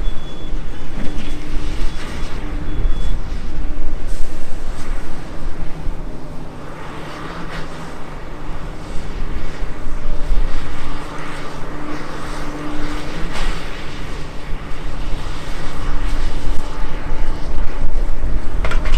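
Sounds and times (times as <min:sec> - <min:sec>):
excavator diesel engine running: 0:00.0 - 0:15.7.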